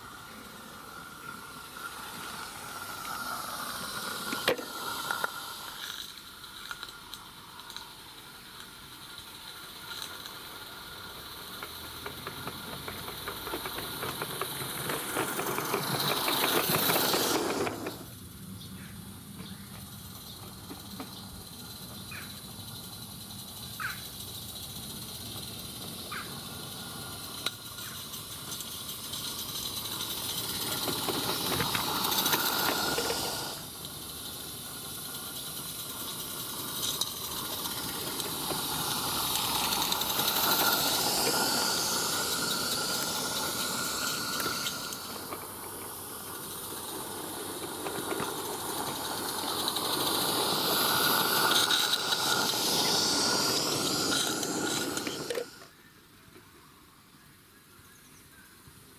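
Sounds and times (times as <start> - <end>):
model steam locomotive hissing: 0.0 - 58.9.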